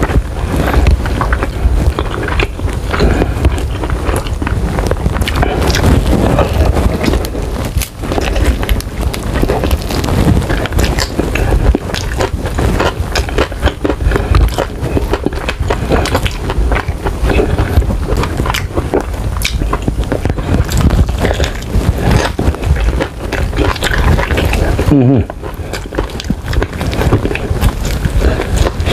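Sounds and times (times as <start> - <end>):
close chewing with wet smacks: 0.0 - 28.9.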